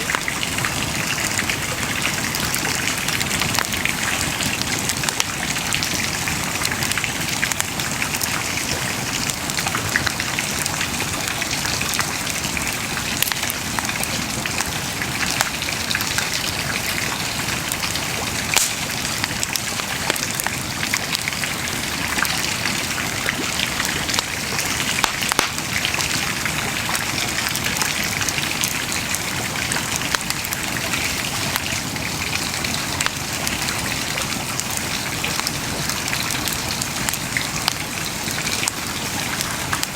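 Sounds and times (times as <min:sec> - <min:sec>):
bonfire crackling and popping: 0:00.0 - 0:34.7.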